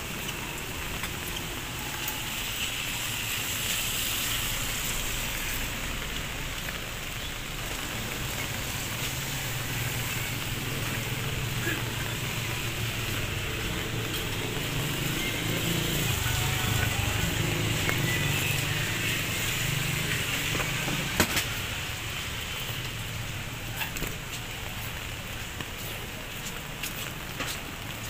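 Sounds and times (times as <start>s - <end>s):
light rain on street: 0.0s - 28.0s
vehicle engines running: 0.0s - 28.0s.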